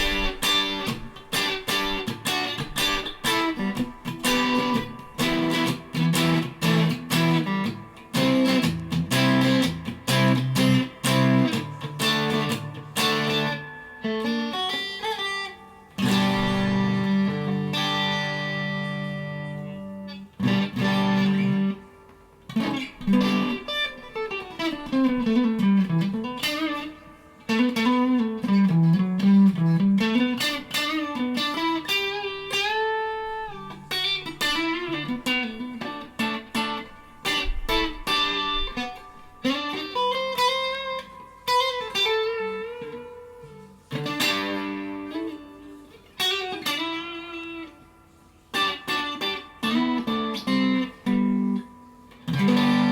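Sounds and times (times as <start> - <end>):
clean electric guitar lead: 0.0 - 52.9.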